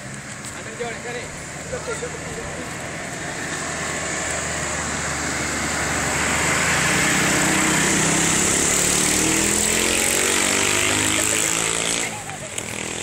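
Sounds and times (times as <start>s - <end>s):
road noise hiss: 0.0s - 13.0s
vehicle engine running: 0.0s - 13.0s.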